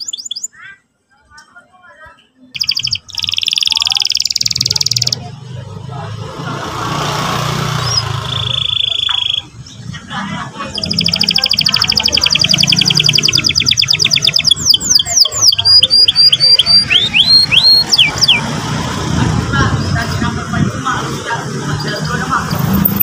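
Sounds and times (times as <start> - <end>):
canary singing: 0.0 - 0.9, 2.5 - 23.0.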